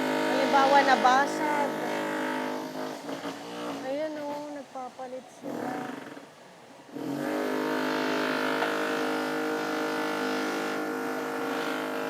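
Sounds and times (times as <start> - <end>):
machine buzzing hum: 0.0 - 12.0.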